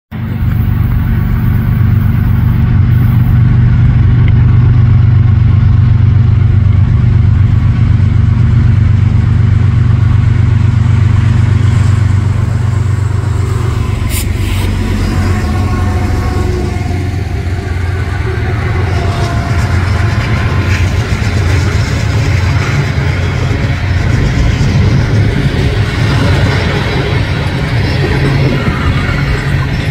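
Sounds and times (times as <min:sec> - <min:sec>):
diesel locomotive engine drone: 0:00.1 - 0:29.9
rail noise: 0:00.1 - 0:29.9.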